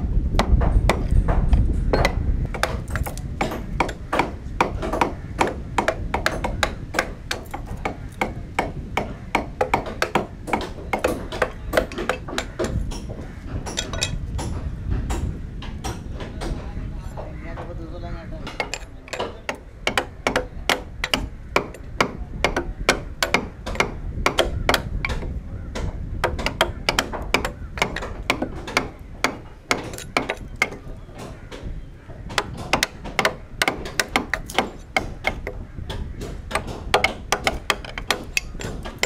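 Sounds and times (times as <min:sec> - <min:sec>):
mallet knocking on chisel: 0:00.4 - 0:16.6, 0:18.5 - 0:31.7, 0:32.3 - 0:39.0.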